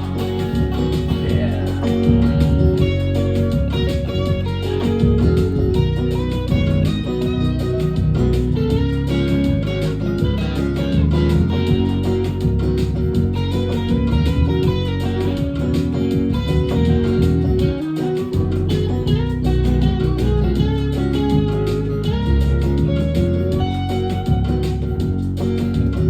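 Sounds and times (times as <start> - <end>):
guitar chords: 0.0 - 26.0
low bass: 0.0 - 26.0
picked guitar melody: 0.0 - 26.0.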